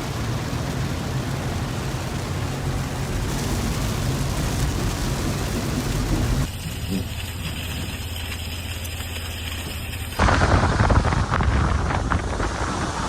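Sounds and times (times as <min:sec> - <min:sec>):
heavy rain downpour: 0:00.0 - 0:13.0.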